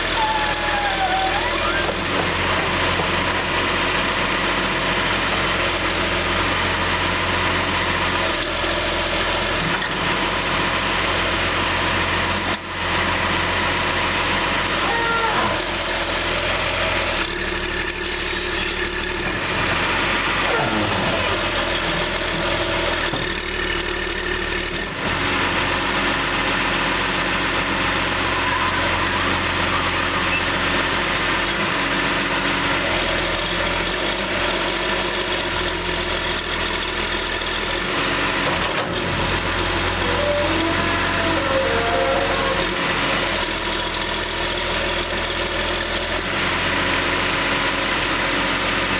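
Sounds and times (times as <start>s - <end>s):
backhoe diesel engine running: 0.0s - 48.9s.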